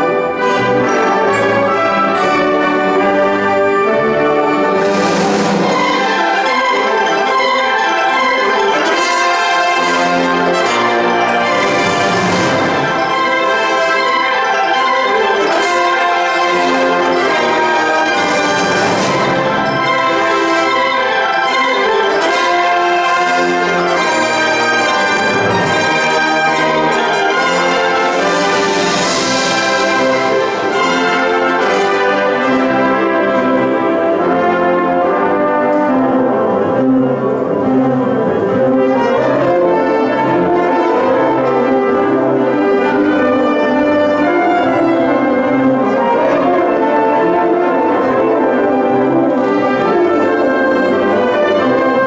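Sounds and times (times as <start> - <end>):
wind band playing: 0.0 - 52.0.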